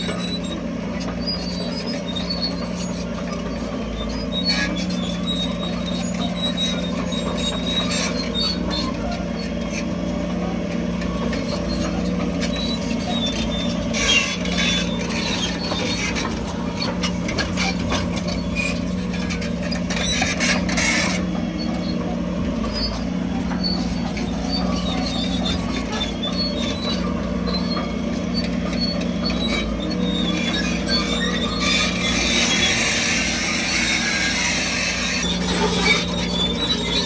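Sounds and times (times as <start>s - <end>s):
bulldozer diesel engine running: 0.0s - 37.0s
steel tracks squeaking and clanking: 0.0s - 37.0s.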